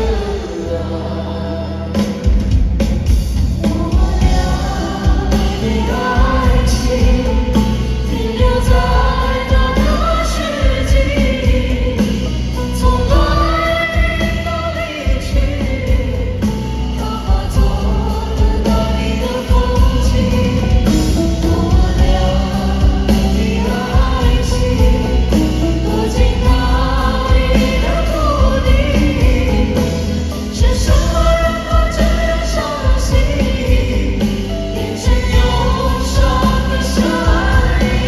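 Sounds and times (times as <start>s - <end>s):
choir-like singing: 0.0s - 38.0s
live band music: 0.0s - 38.0s.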